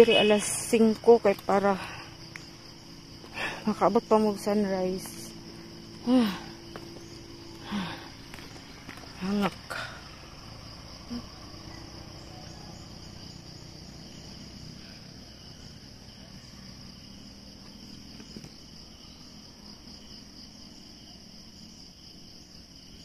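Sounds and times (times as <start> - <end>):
insect chorus chirring: 0.0 - 23.0.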